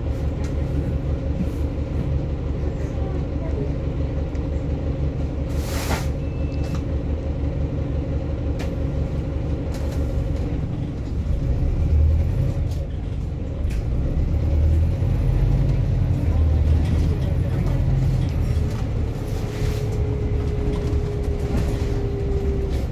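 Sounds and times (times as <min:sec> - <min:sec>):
bus engine rumble: 0:00.0 - 0:22.9.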